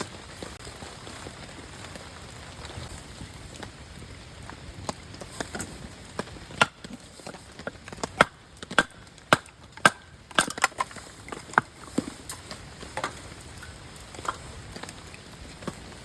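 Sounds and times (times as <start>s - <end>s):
dry branches cracking: 0.0s - 16.0s.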